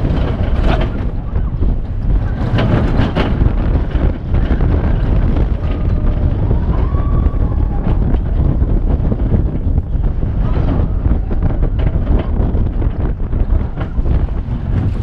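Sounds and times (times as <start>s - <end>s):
roller coaster clatters: 0.0s - 15.0s
roller coaster train rumbling on track: 0.0s - 15.0s
wind buffeting microphone: 0.0s - 15.0s.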